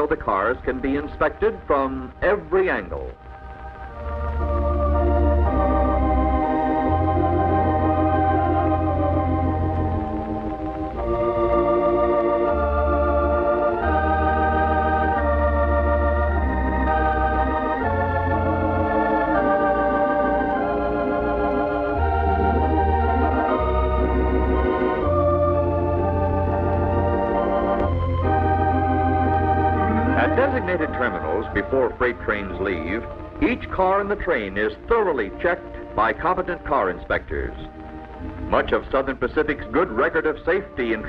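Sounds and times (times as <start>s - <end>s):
organ playing chords: 0.0s - 41.0s.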